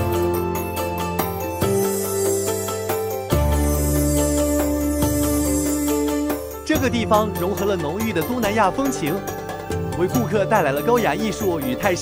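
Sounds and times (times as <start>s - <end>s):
background music with bass: 0.0s - 12.0s.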